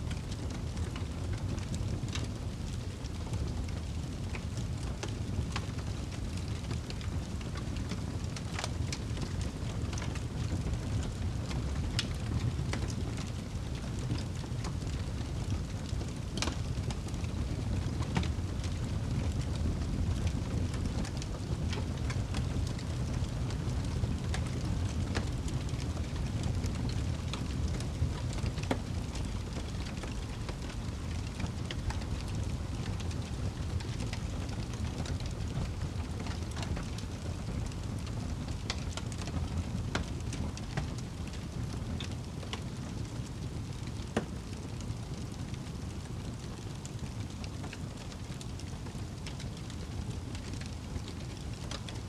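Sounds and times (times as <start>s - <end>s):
fire flames rumbling: 0.0s - 52.0s
fire popping and snapping: 0.0s - 52.0s.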